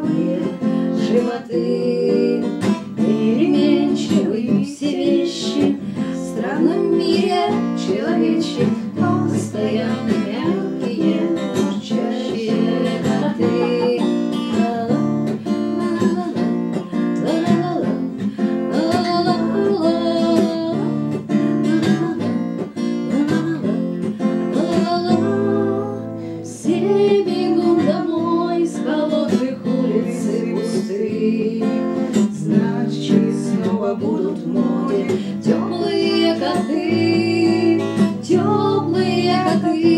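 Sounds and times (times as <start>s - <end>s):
acoustic guitar strumming: 0.0s - 39.9s
woman singing: 0.0s - 39.9s.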